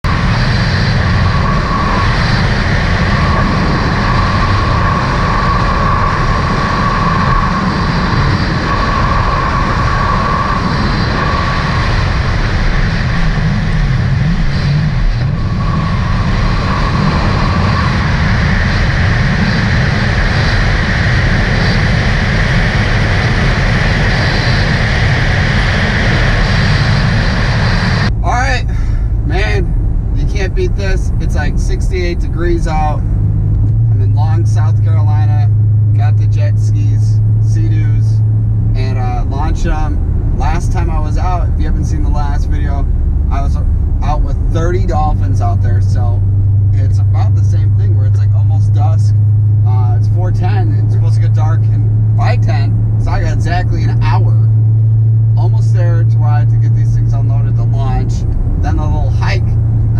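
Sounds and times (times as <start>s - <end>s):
faint whine: 0.0s - 59.9s
vehicle engine running: 0.0s - 59.9s
wind noise: 0.0s - 59.9s.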